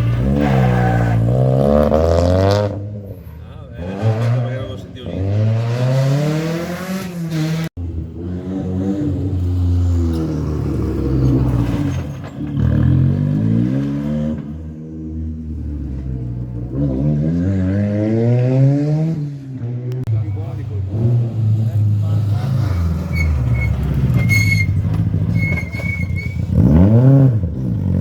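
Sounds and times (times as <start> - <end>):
car engine accelerating hard: 3.8 - 28.0.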